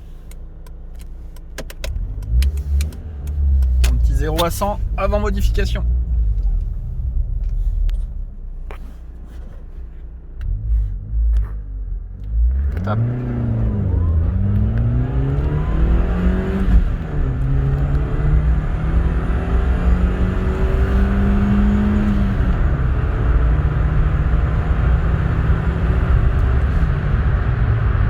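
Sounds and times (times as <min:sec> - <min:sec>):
car engine accelerating hard: 0:01.7 - 0:08.3, 0:10.4 - 0:28.0.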